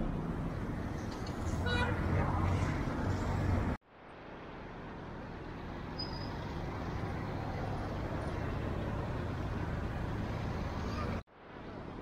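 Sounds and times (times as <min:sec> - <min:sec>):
outdoor background rumble and hiss: 0:00.0 - 0:12.0.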